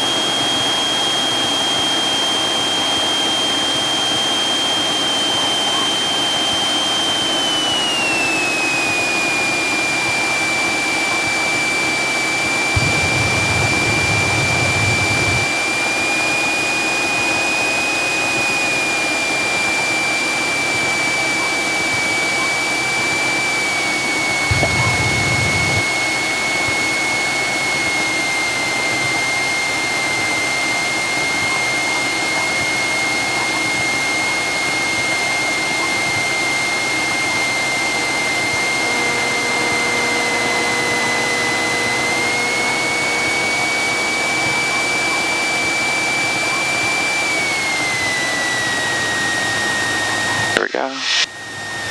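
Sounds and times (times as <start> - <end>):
airplane engine and propeller droning: 0.0 - 51.9
high engine whine: 0.0 - 51.9.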